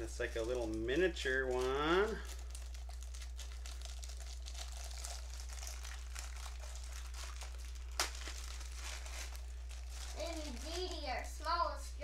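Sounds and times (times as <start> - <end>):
plastic packaging crinkling: 0.0 - 11.4
steady low hum: 0.0 - 12.0.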